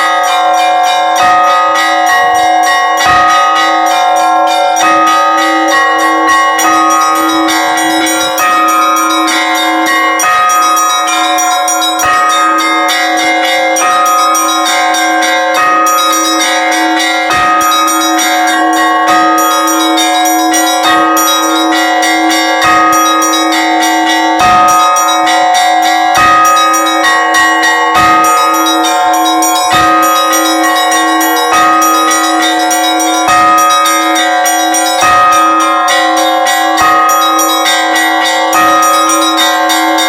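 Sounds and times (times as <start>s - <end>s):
large deep bells ringing: 0.0s - 40.0s
small high bells striking: 0.0s - 40.0s.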